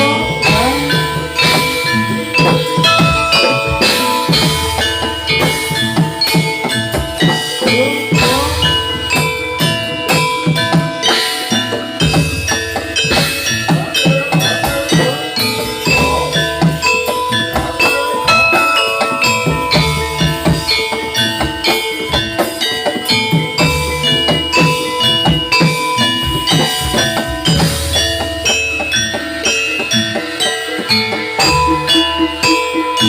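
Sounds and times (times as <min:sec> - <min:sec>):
metal mallet instruments ringing: 0:00.0 - 0:33.0
steady drum beat: 0:00.0 - 0:33.0.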